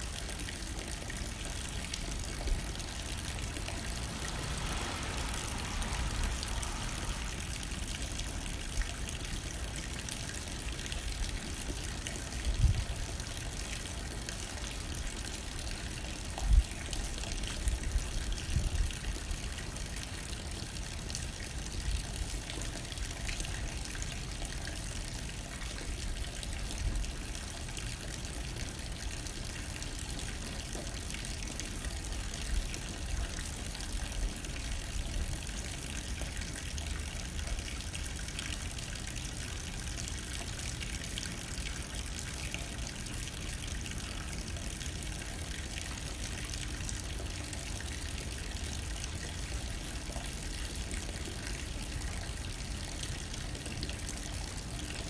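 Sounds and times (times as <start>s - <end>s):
rain hitting a window: 0.0s - 52.8s
light wind: 0.0s - 55.0s.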